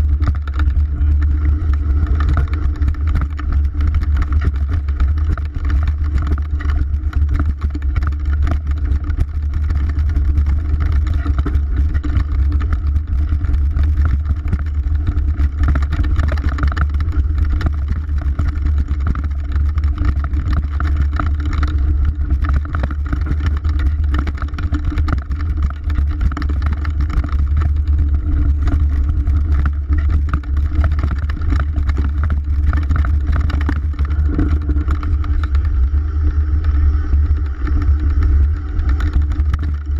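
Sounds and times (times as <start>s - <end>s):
bike rattling: 0.0s - 39.9s
tyres on gravel: 0.0s - 39.9s
wind rumble on microphone: 0.0s - 39.9s.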